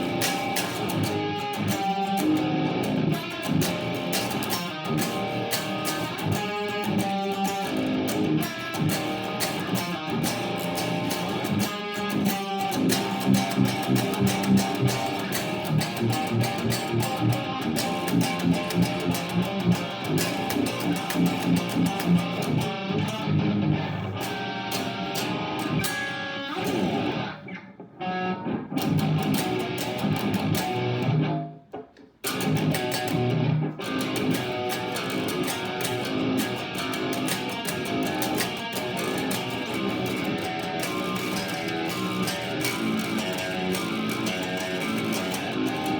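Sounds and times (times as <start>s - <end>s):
distorted electric guitar riffs: 0.0s - 45.9s.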